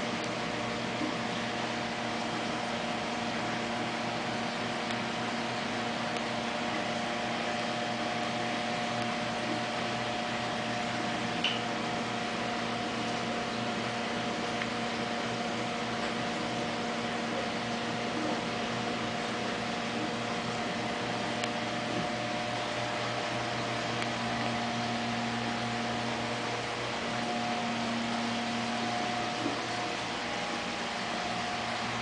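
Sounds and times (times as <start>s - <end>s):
aquarium pumps humming: 0.0s - 32.0s.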